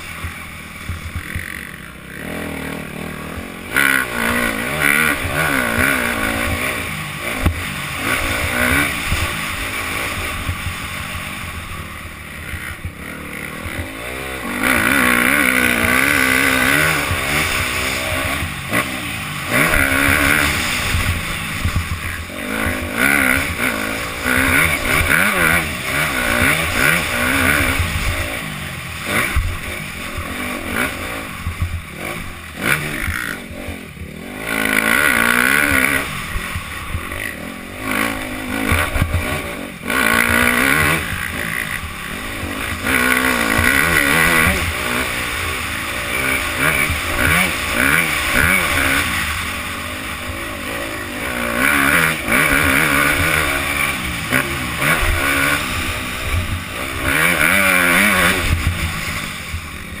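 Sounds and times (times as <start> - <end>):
motocross engine revving: 0.0 - 60.0.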